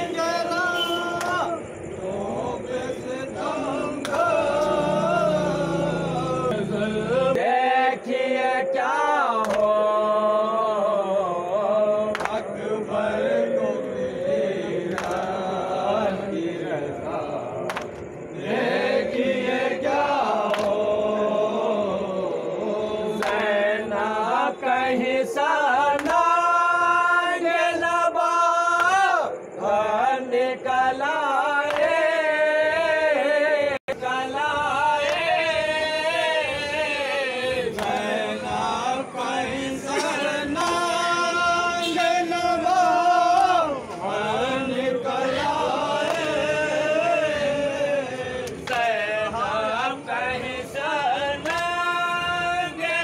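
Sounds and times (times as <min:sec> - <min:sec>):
men chanting a lament: 0:00.0 - 0:53.0.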